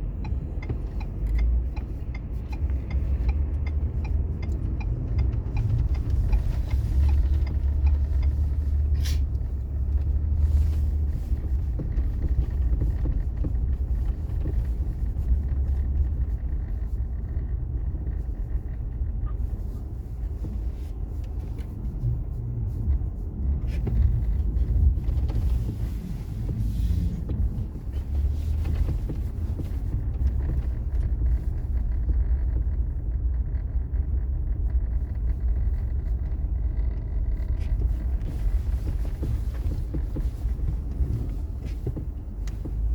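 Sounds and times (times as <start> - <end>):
car driving cabin rumble: 0.0 - 42.9
regular ticking: 0.0 - 42.9.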